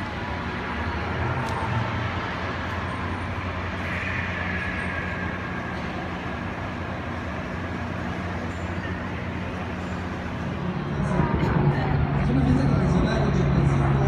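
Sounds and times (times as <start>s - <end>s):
constant low hum: 0.0s - 14.0s
distant activity: 0.0s - 14.0s.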